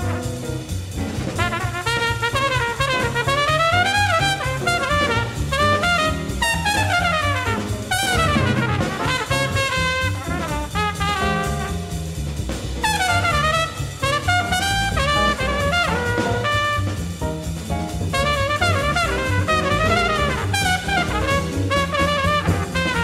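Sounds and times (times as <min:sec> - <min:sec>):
trumpet soloing: 0:00.0 - 0:12.2, 0:12.8 - 0:23.0
jazz band bass and drums: 0:00.0 - 0:23.0.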